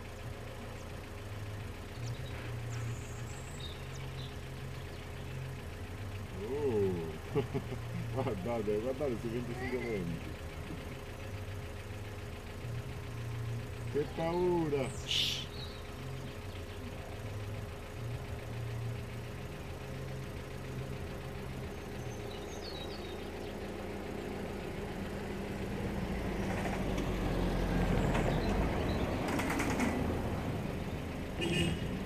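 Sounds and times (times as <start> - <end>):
distant diesel locomotive engine humming: 0.0 - 32.0.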